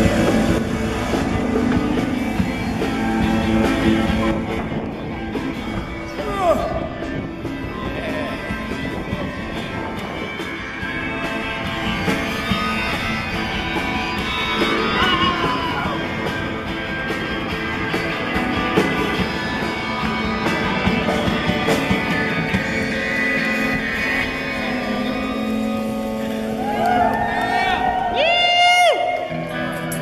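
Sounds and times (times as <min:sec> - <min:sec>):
live rock band playing: 0:00.0 - 0:06.3, 0:06.9 - 0:27.6
electric guitar: 0:00.0 - 0:30.0.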